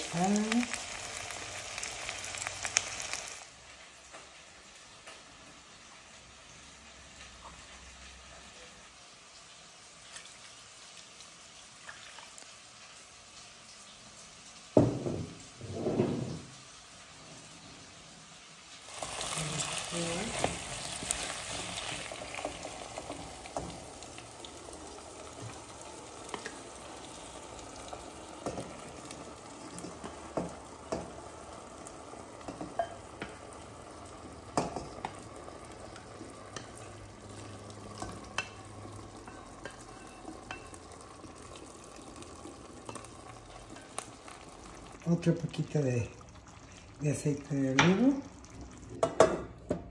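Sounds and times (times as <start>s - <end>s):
meat sizzling in a pan: 0.0s - 49.7s.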